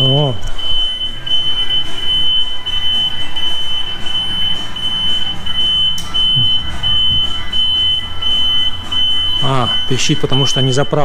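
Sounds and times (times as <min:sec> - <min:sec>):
low machine hum: 0:00.0 - 0:11.0
pulsing high-pitched alarm beep: 0:00.0 - 0:11.0.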